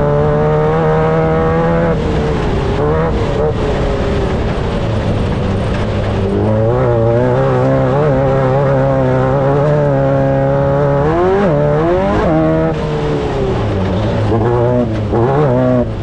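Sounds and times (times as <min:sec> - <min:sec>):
race vehicle engine revving: 0:00.0 - 0:16.0.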